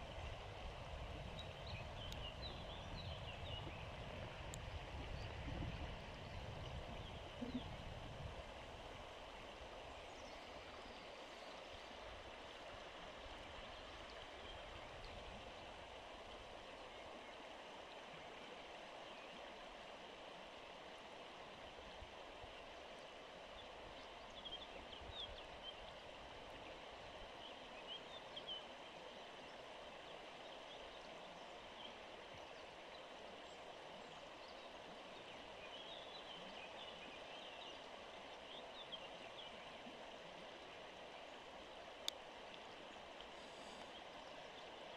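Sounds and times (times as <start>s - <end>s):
river water flowing over stones: 0.0s - 44.9s.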